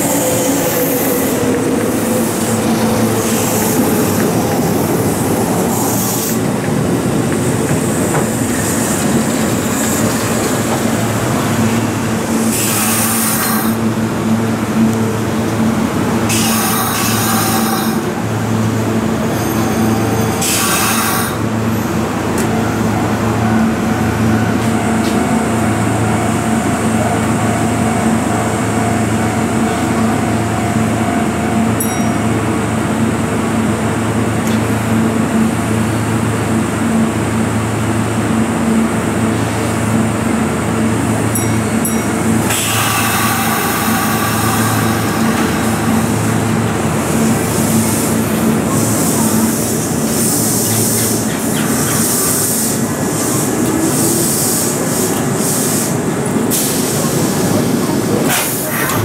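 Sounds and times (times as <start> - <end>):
train rumbling and braking: 0.0 - 59.0.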